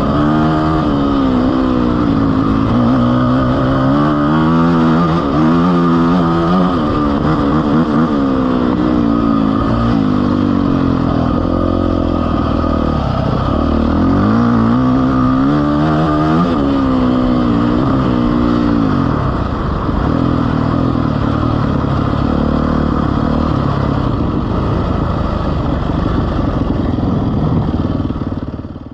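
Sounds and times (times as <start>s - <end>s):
vehicle engine revving: 0.0s - 28.6s.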